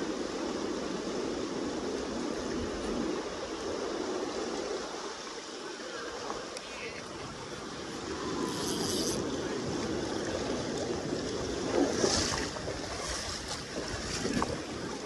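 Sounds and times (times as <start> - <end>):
fast river water rushing: 0.0 - 15.0
wind noise on microphone: 0.0 - 15.0.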